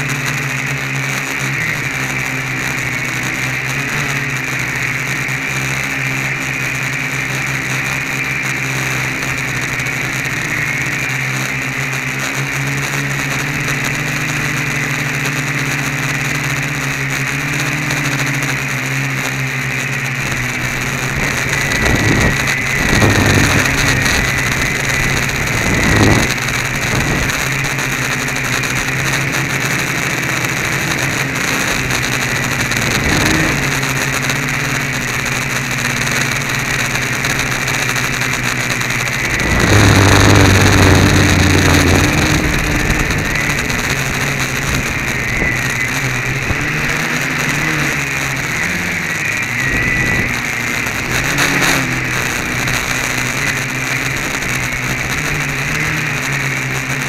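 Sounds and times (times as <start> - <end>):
quadcopter motors buzzing: 0.0 - 57.0.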